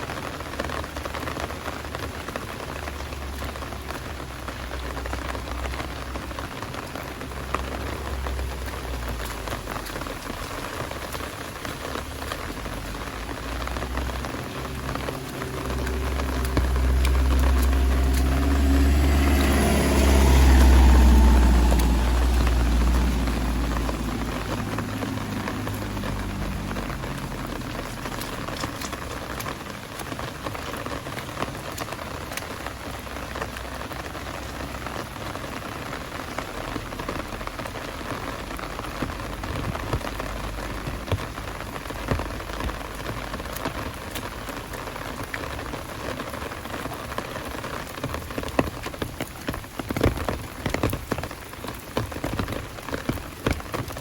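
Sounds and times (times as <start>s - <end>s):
heavy rain: 0.0s - 54.0s
vehicle passing on wet road: 0.0s - 54.0s.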